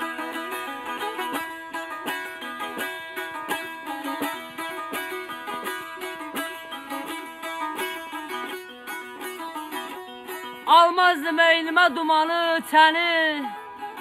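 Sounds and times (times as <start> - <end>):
plucked lute melody: 0.0 - 14.0.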